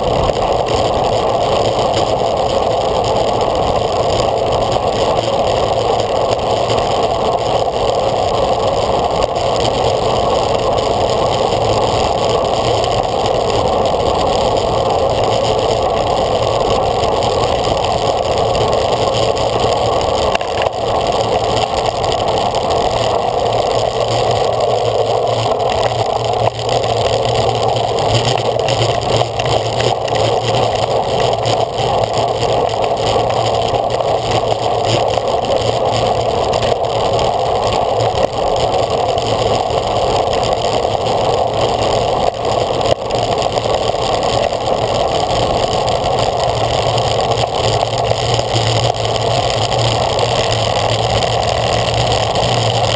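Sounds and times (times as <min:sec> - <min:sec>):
bicycle tyre and road noise: 0:00.0 - 0:52.9.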